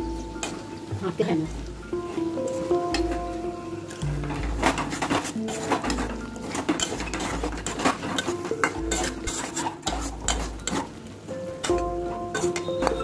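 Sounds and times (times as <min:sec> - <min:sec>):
metal spatula scraping a wok: 0:02.1 - 0:13.0.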